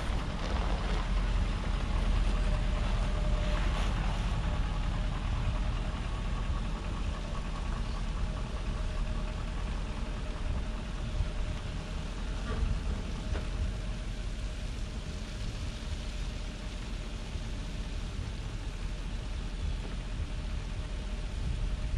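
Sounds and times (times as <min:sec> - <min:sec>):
vehicle engine running low: 0:00.0 - 0:21.9.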